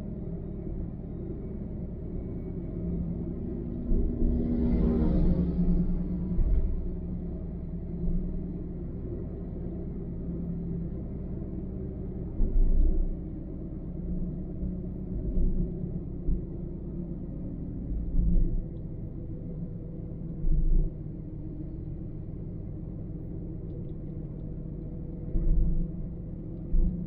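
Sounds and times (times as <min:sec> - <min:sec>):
road and engine rumble: 0:00.0 - 0:27.0.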